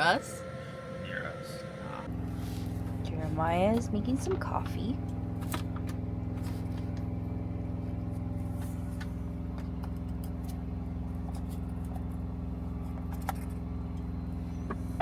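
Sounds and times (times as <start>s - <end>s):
truck diesel engine idling: 0.0s - 15.0s.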